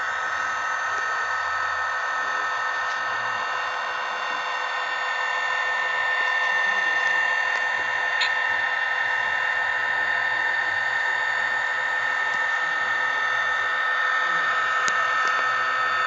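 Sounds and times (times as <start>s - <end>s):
thin whining engine whir from speaker: 0.0s - 16.0s.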